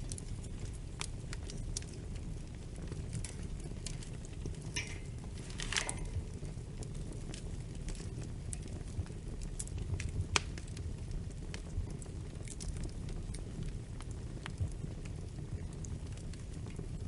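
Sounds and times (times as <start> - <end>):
steady low rumble: 0.0 - 17.0
wood fire crackling: 0.0 - 17.0.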